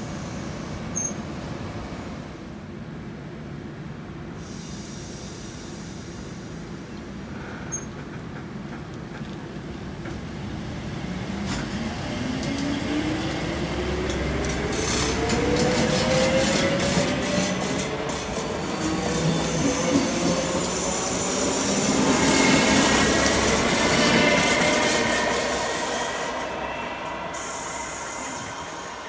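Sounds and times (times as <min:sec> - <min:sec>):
train low hum: 0:00.0 - 0:29.0.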